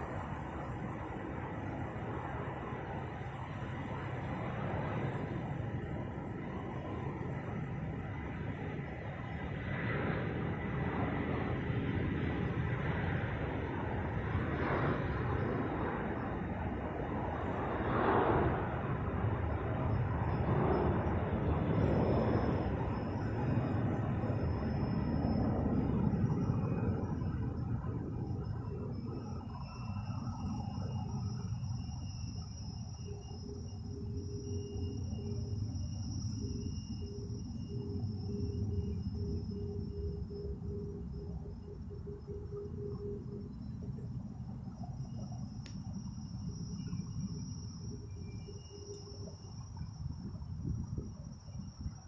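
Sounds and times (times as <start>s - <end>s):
high-pitched whine: 0.0s - 52.0s.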